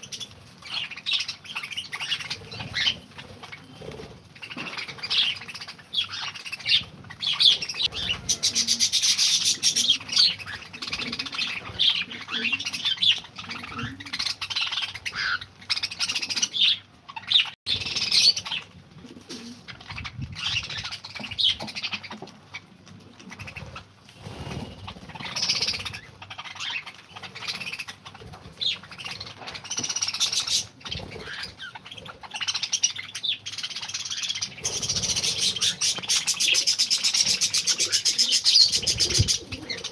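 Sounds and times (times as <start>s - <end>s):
pet birds chirping and calling: 0.0s - 39.9s.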